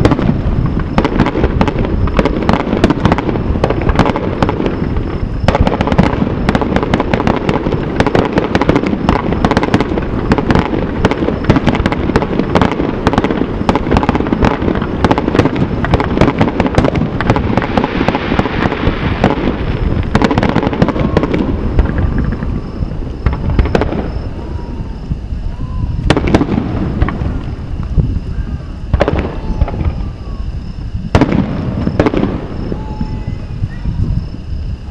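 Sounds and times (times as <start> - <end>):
firework booms and crackles: 0.0 - 34.9.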